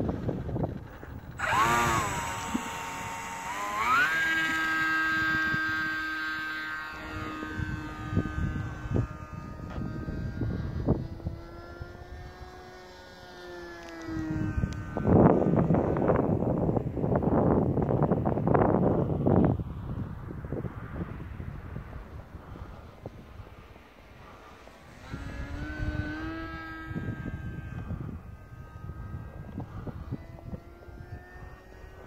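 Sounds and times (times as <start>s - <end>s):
model plane motor whining: 0.0s - 32.0s
wind on microphone: 0.0s - 32.0s.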